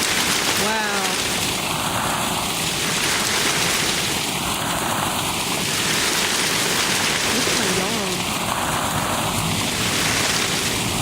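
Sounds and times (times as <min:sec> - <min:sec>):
heavy hail clattering: 0:00.0 - 0:11.0.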